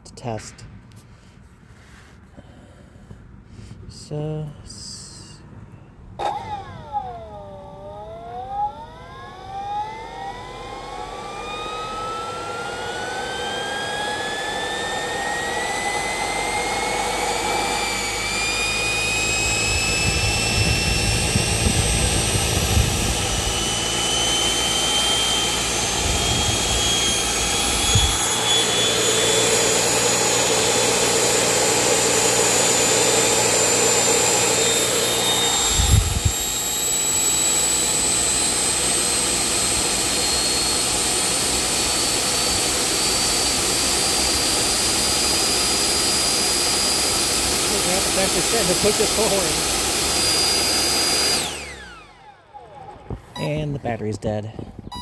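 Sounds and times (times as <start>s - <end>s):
electric ducted fan whining: 0.0s - 55.0s.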